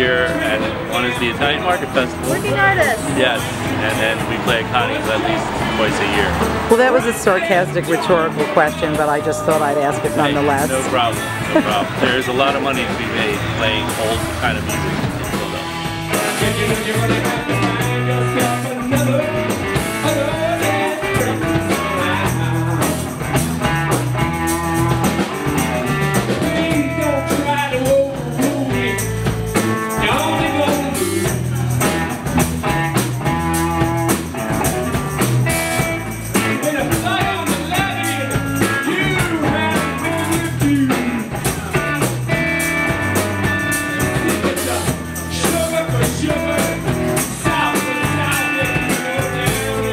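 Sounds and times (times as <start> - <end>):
blues-rock band playing: 0.0 - 49.9.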